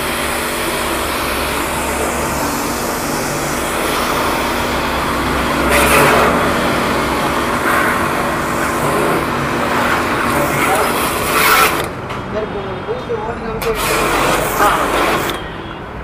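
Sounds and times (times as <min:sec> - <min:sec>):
water jet spraying on car: 0:00.0 - 0:12.0, 0:13.6 - 0:15.5
pressure washer motor humming: 0:00.0 - 0:12.1, 0:13.6 - 0:15.7.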